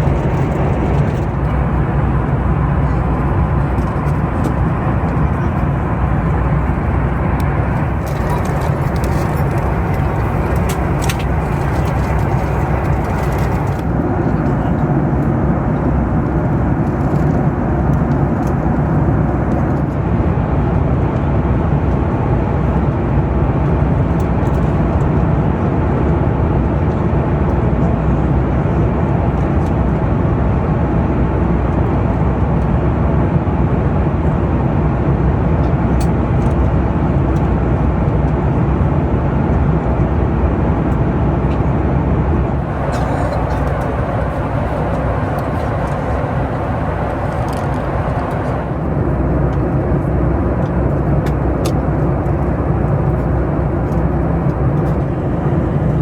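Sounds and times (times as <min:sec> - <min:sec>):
jet engine and airflow roar: 0:00.0 - 0:56.0.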